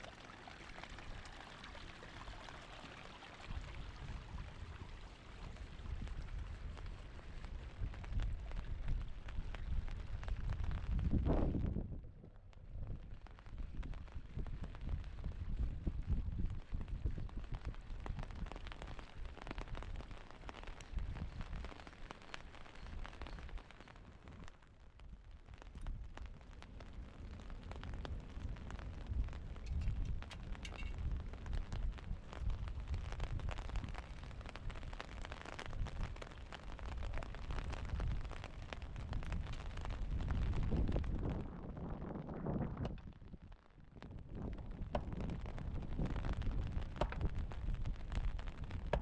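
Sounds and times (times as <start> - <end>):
rain pattering: 0.0 - 49.0
wind buffeting microphone: 3.4 - 20.2, 20.8 - 21.8, 25.1 - 49.0.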